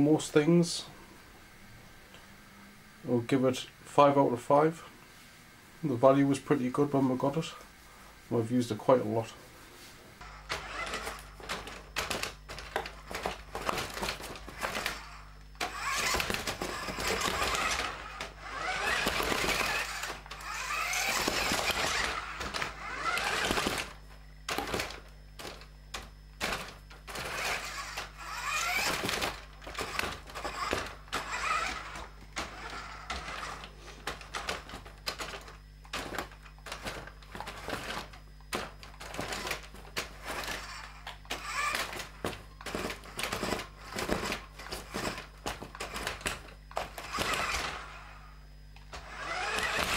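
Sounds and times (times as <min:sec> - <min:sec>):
electric motor and gears whining: 0:08.4 - 0:49.9.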